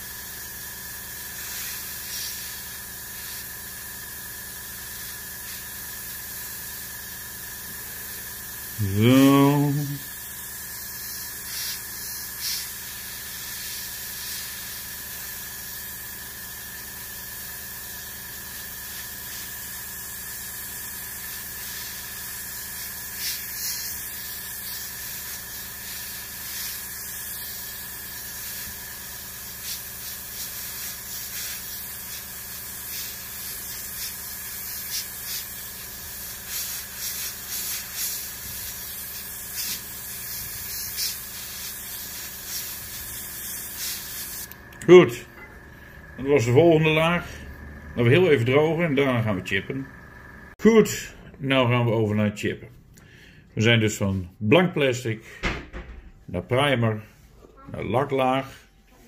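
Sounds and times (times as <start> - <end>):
airbrush hissing: 0.0 - 50.6.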